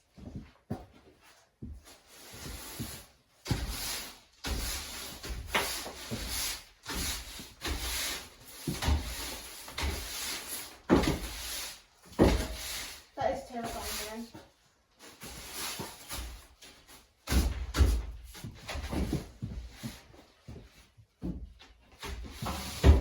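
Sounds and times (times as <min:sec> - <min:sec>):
broom sweeping wooden boards: 0:01.8 - 0:21.0, 0:21.9 - 0:23.0.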